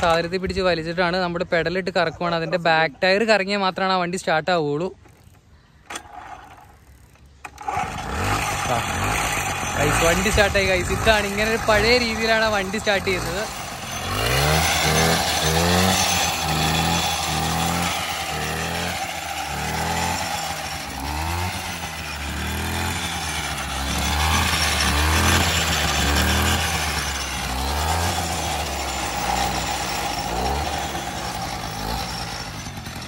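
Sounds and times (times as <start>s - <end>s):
moped engine revving: 5.9s - 33.0s.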